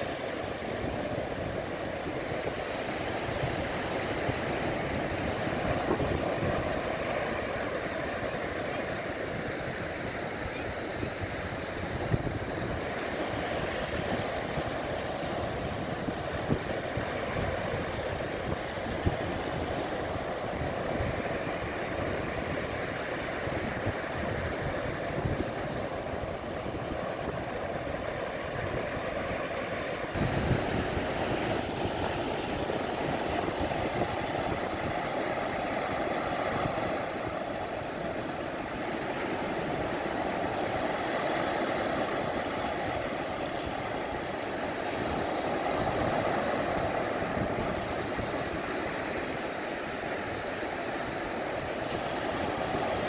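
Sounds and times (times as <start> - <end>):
waves breaking on beach: 0.0 - 53.0.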